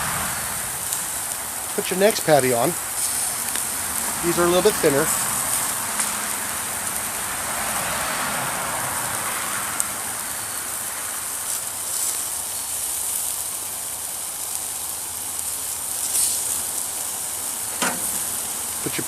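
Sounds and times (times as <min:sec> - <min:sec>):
campfire hissing and crackling: 0:00.0 - 0:19.0
meat sizzling: 0:00.0 - 0:19.0.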